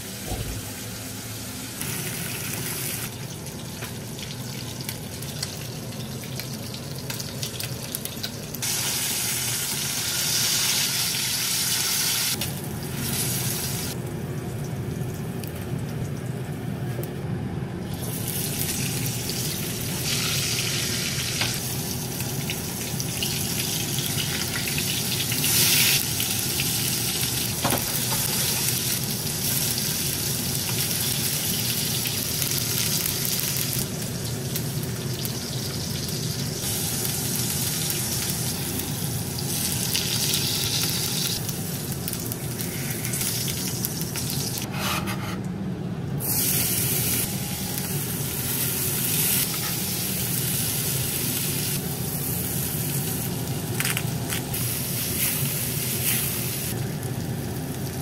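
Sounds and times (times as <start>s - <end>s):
sausages and bacon sizzling: 0.7s - 14.0s, 17.9s - 44.7s, 46.2s - 58.0s.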